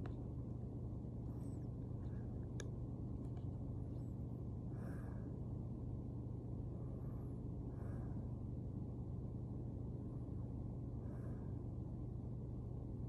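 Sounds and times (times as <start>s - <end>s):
low background hum: 0.0s - 13.0s
soft sleeping breaths: 0.0s - 13.0s.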